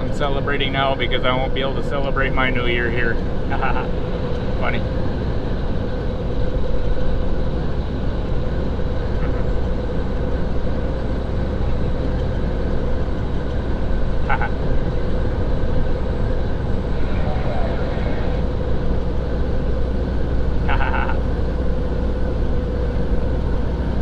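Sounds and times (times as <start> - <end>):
constant hum: 0.0 - 24.0
truck engine and road noise: 0.0 - 24.0.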